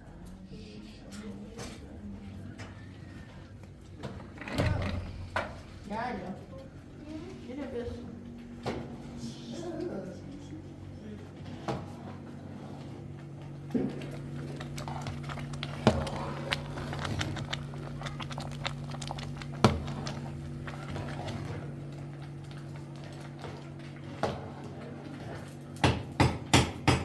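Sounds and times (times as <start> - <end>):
steady low hum: 0.0 - 25.8.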